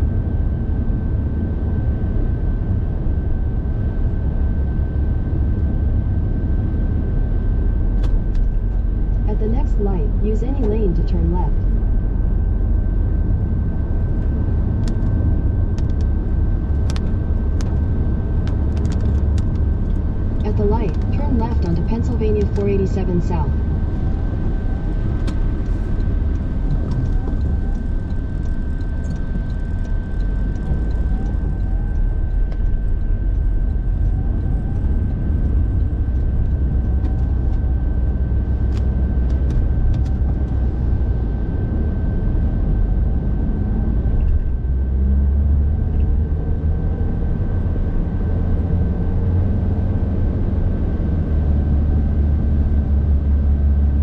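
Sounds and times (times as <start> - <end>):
car engine and road rumble: 0.0 - 54.0
thin steady whine: 0.0 - 54.0.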